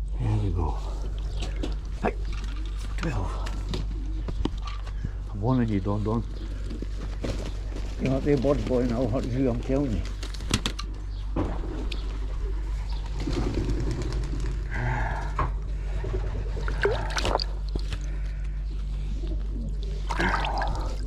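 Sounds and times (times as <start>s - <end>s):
pigeons cooing: 0.0s - 10.3s, 10.9s - 21.0s
steady low hum: 0.0s - 21.0s.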